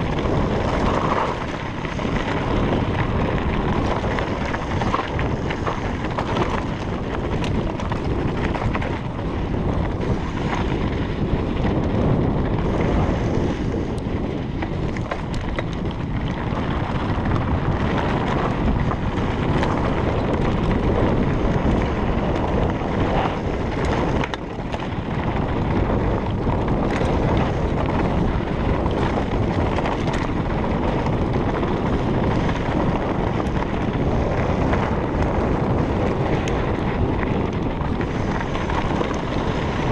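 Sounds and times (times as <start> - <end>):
bike rattles and clicks: 0.0 - 39.9
bike tyre noise: 0.0 - 39.9
wind rushing over microphone: 0.0 - 39.9.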